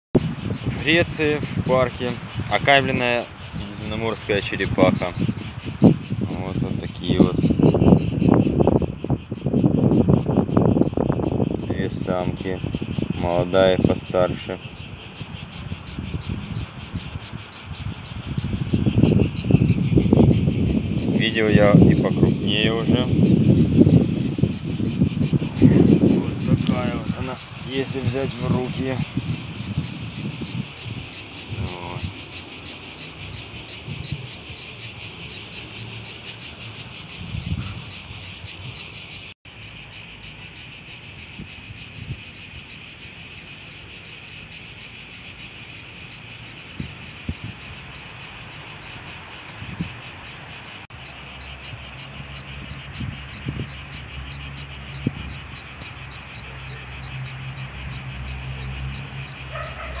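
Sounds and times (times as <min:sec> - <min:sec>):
insects trilling: 0:00.2 - 1:00.0.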